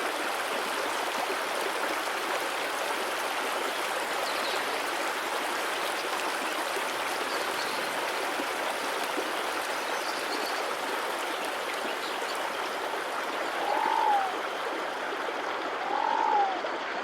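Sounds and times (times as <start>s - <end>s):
stream running: 0.0s - 17.0s.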